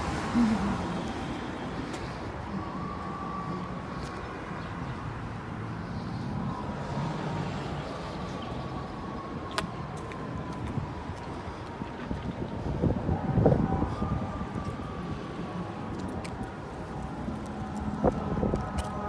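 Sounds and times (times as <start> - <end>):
passing vehicles rumble: 0.0 - 19.0.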